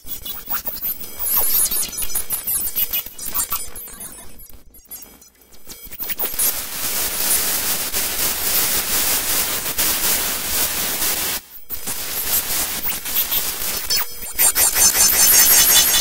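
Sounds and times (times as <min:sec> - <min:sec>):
harsh static noise music: 0:00.9 - 0:16.0.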